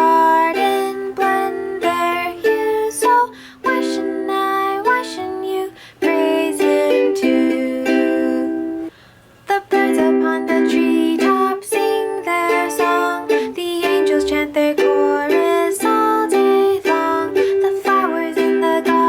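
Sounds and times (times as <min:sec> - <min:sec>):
ukulele playing hymn tune: 0:00.0 - 0:08.9, 0:09.5 - 0:19.0.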